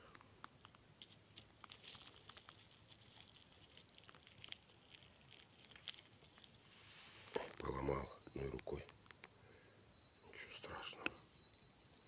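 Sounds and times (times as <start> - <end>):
pine needles and twigs crackling: 0.0 - 12.0.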